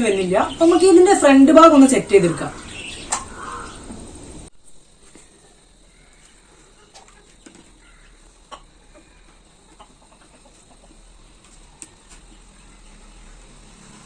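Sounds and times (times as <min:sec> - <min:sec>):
chickens clucking faintly: 0:00.0 - 0:14.0.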